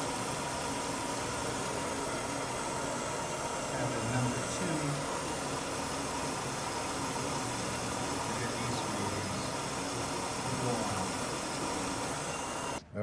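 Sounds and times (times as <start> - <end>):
car engine running: 0.0 - 12.8.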